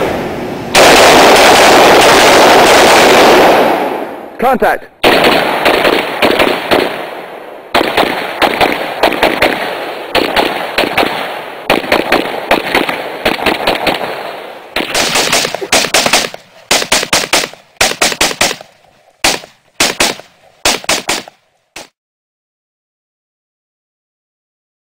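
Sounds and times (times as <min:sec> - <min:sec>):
rifle gunfire: 0:00.7 - 0:04.1, 0:05.0 - 0:21.9.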